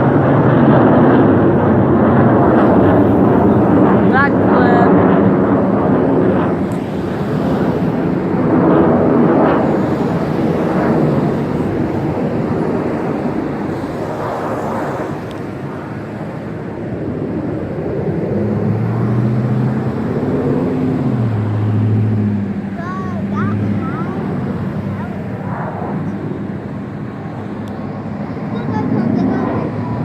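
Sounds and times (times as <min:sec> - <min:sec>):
droning engine tone: 0:00.0 - 0:30.0
engine roar: 0:00.0 - 0:30.0.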